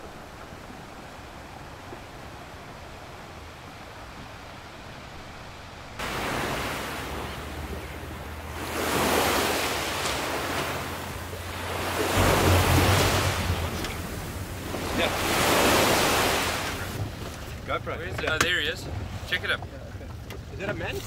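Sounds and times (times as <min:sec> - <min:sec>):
ocean waves washing in: 0:00.0 - 0:18.0.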